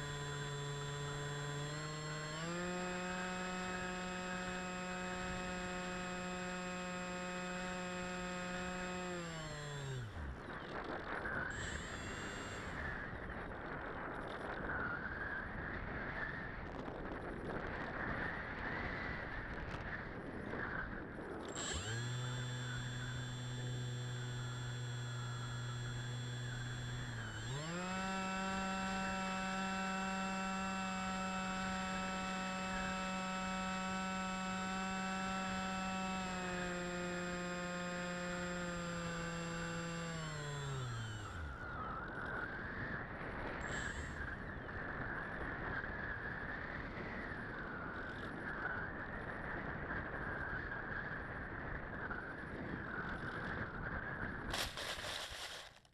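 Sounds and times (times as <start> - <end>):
electric motor drone: 0.0 - 16.6, 17.2 - 55.8.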